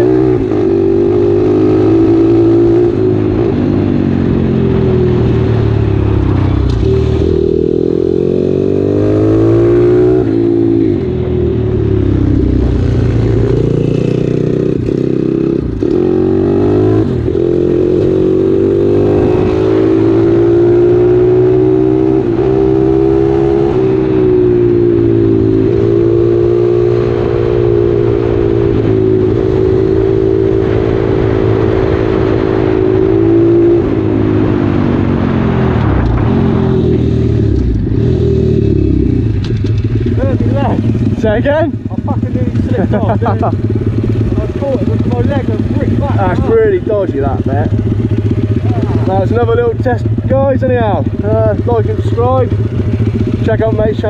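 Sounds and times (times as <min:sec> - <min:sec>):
pit bike engine revving: 0:00.0 - 0:54.0.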